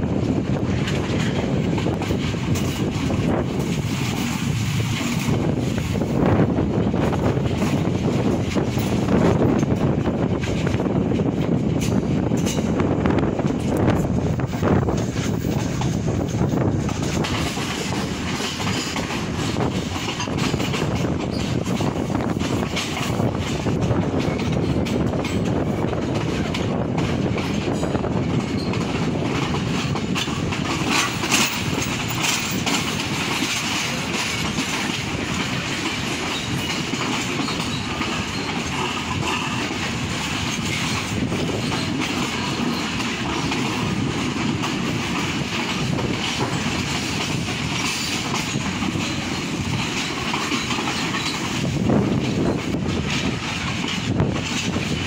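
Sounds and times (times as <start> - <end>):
train wheels rumbling on rails: 0.0 - 55.0
wheels clicking over rail joints: 0.1 - 55.0.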